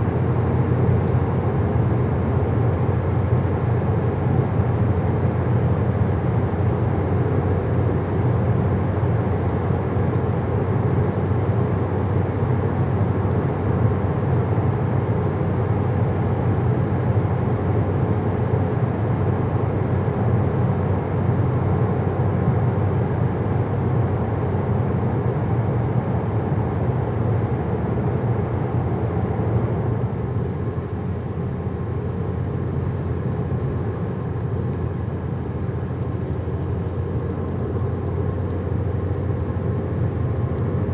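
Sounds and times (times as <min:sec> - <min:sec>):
car cabin road drone: 0:00.0 - 0:40.9.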